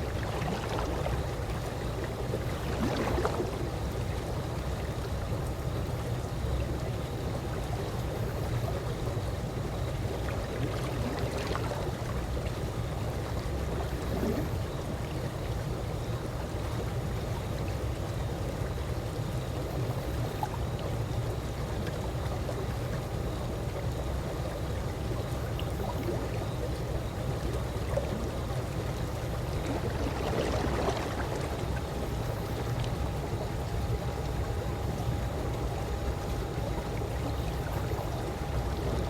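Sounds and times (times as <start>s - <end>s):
pool water lapping: 0.0s - 39.0s
soft water splashes: 0.0s - 39.0s.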